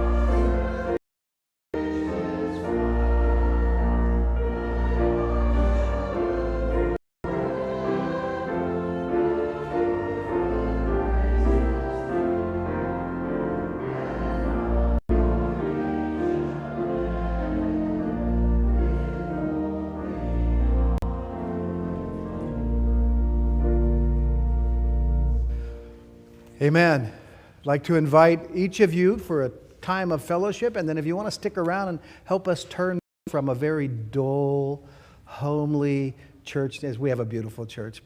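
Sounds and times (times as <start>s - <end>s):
hymn with keyboard accompaniment: 0.0s - 1.0s, 1.8s - 38.0s.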